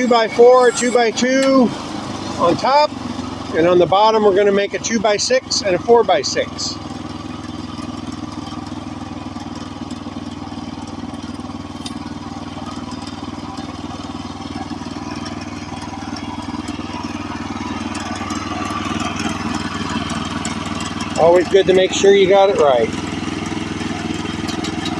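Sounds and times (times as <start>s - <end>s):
sawmill gas engine running: 0.0s - 24.9s.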